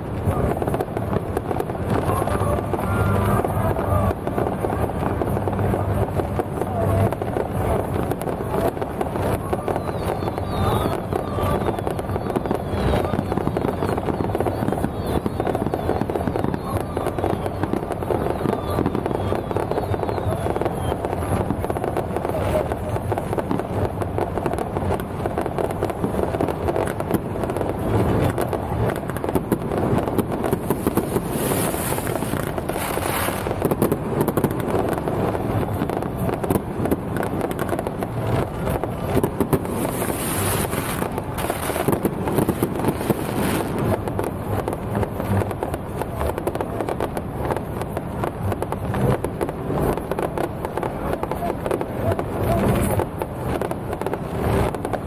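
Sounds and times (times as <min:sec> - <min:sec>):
fireworks crackling: 0:00.0 - 0:55.0
fireworks hissing: 0:00.0 - 0:55.0.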